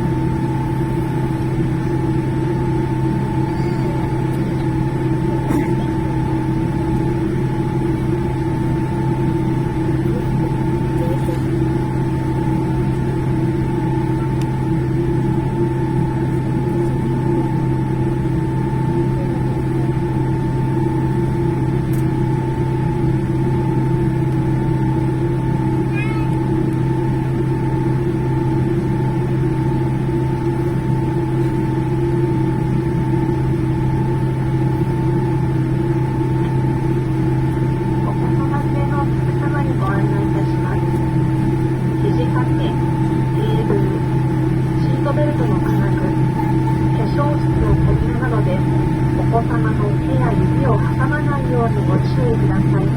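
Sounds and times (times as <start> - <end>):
airliner cabin engine drone: 0.0 - 52.9.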